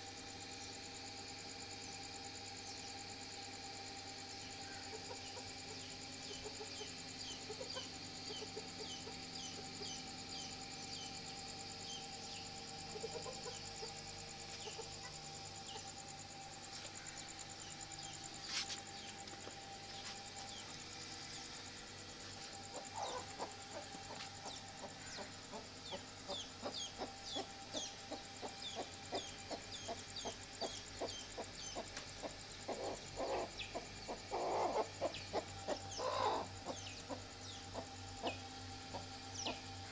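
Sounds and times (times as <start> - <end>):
faint high chirping: 0.0 - 39.9
steady low hum: 0.0 - 39.9.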